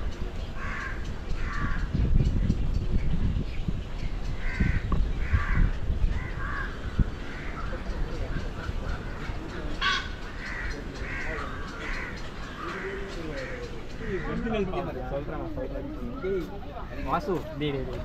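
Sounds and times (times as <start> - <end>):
harsh bird calls: 0.0 - 17.9.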